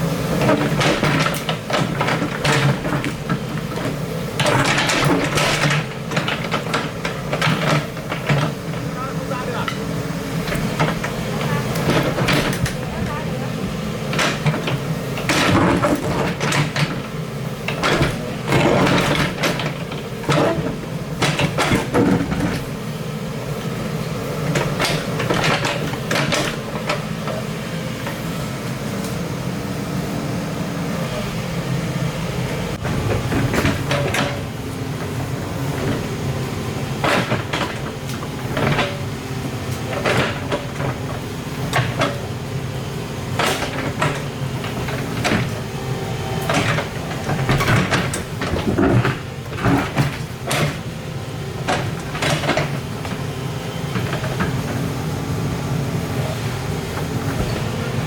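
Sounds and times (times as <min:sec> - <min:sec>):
excavator engine running: 0:00.0 - 0:58.0
clunks and scrapes: 0:00.4 - 0:22.9, 0:24.4 - 0:29.2, 0:32.8 - 0:51.0, 0:51.6 - 0:54.9, 0:56.2 - 0:58.0.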